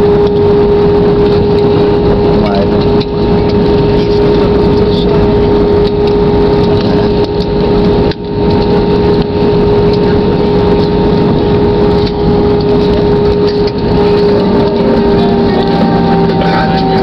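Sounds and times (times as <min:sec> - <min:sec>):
constant rush of noise: 0:00.0 - 0:17.0
jet engines humming: 0:00.0 - 0:17.0.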